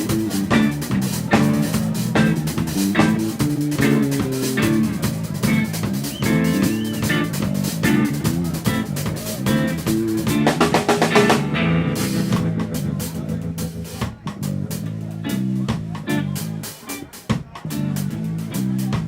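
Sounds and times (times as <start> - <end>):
drum kit beat: 0.0 - 19.0
live band playing: 0.0 - 19.0.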